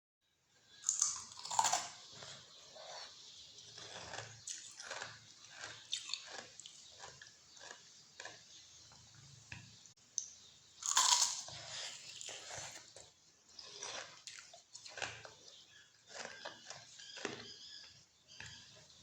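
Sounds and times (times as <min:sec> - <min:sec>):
person chewing food: 0:00.7 - 0:09.7, 0:10.8 - 0:19.0.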